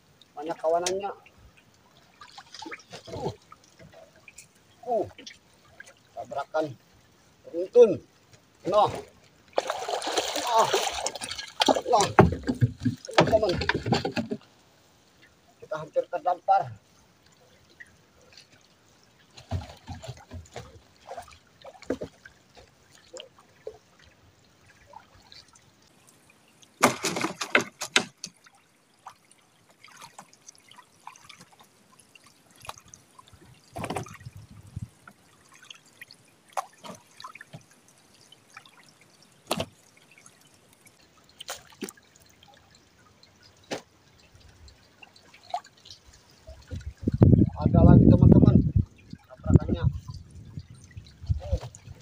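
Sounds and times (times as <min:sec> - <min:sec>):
water dripping and splashing: 0:00.1 - 0:52.0.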